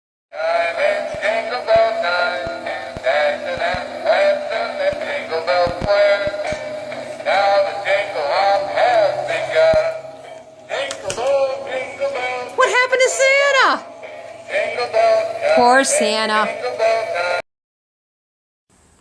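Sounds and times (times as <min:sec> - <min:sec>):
high-pitched sung melody with music: 0:00.4 - 0:17.4.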